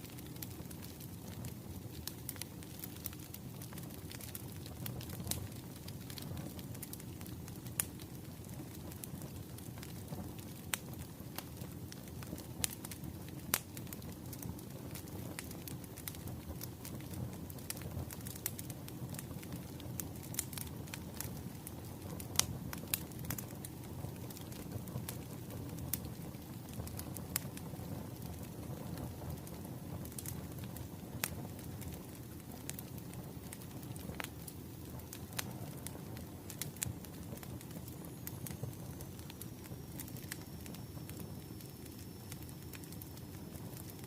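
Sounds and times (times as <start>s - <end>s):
fire low rumble: 0.0s - 44.0s
firewood crackling and popping: 0.0s - 44.0s.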